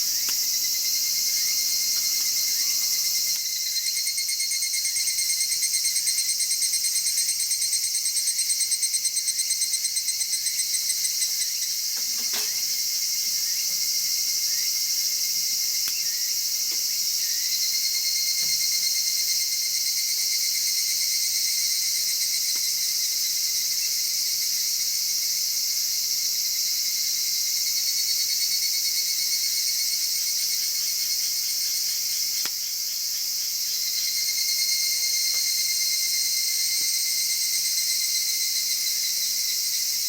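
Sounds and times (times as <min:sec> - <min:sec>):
crickets and insects chorus: 0:00.0 - 0:40.0.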